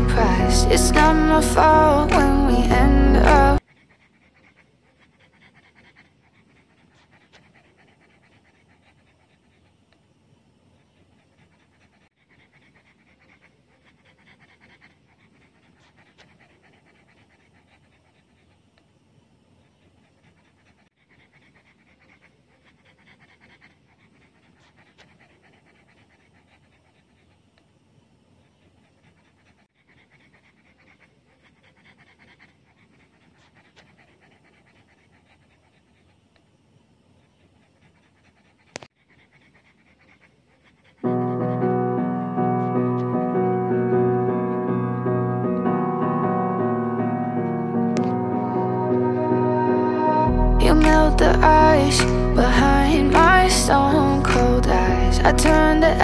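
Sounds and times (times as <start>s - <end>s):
dog panting: 0.0s - 49.2s, 50.3s - 56.0s.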